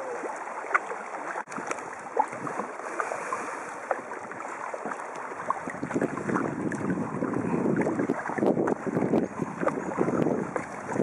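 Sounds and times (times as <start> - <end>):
paddle splashes and drips: 0.0 - 11.0
water washing: 0.0 - 11.0.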